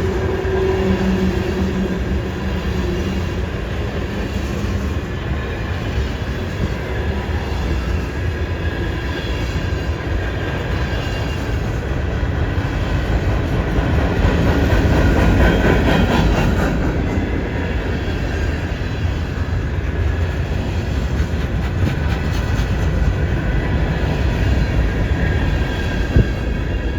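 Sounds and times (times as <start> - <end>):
steel wheels rumbling on rail: 0.0 - 26.9.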